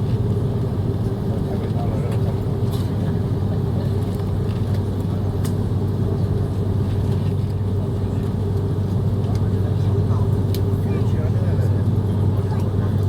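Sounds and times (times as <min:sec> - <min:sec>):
airliner engines humming: 0:00.0 - 0:13.0.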